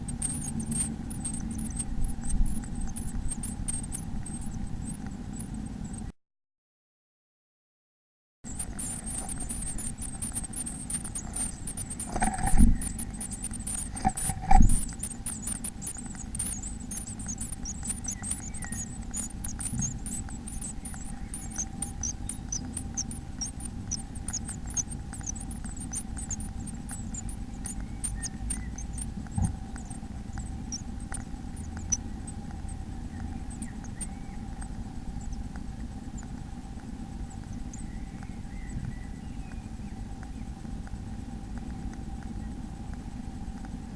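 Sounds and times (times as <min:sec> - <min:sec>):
small birds cheeping: 0:00.0 - 0:06.1, 0:08.5 - 0:43.9
steady electrical hum: 0:00.0 - 0:06.2, 0:08.5 - 0:43.9.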